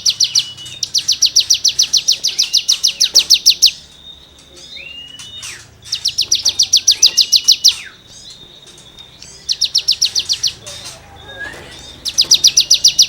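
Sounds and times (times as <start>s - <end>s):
songbird rattling trills: 0.0s - 13.0s.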